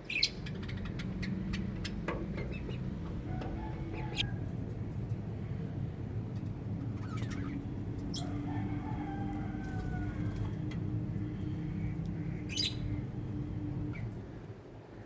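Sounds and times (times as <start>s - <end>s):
birds squawking: 0.0s - 4.5s, 5.8s - 14.4s
steady low hum: 0.0s - 14.8s.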